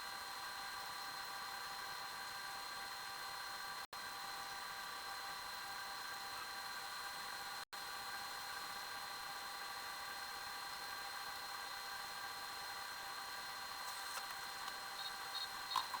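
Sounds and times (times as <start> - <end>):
machine whirring and humming: 0.0 - 16.0.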